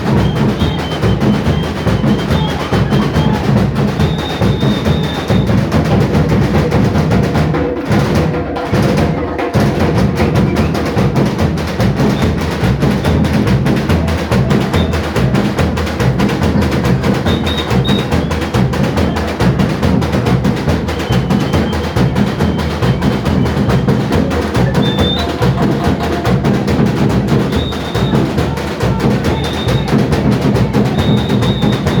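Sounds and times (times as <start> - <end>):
samba drums and percussion: 0.0 - 32.0.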